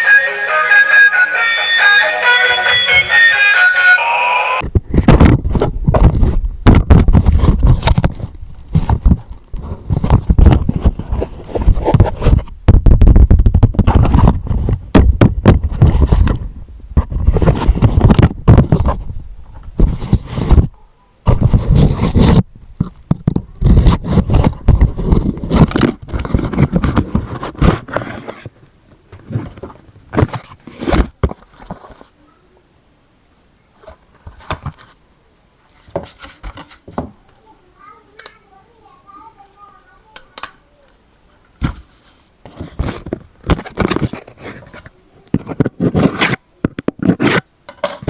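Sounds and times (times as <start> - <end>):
scraping and rustling: 4.8 - 12.6, 13.4 - 32.3, 33.7 - 35.0, 35.6 - 48.0.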